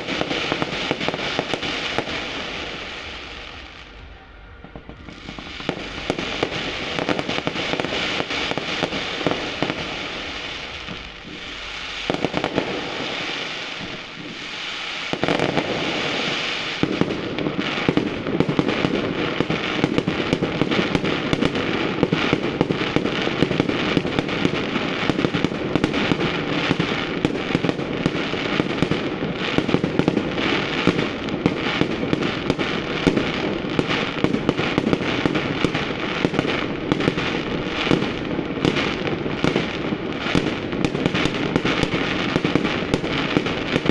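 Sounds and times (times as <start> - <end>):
fireworks bangs: 0.0 - 43.9
fireworks crackling: 0.0 - 43.9.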